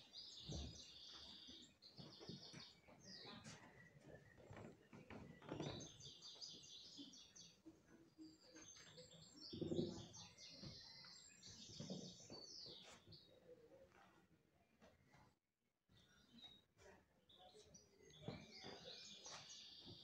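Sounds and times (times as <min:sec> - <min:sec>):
small birds chirping: 0:00.0 - 0:14.2, 0:15.9 - 0:20.0.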